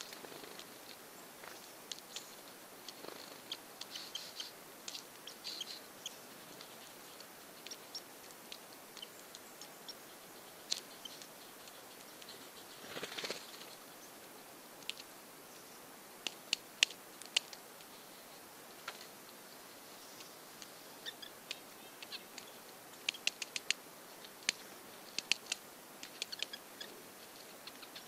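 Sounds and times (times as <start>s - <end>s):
woodpecker pecking ticks: 0.0s - 13.9s, 14.8s - 15.2s, 16.2s - 18.0s, 20.1s - 28.0s.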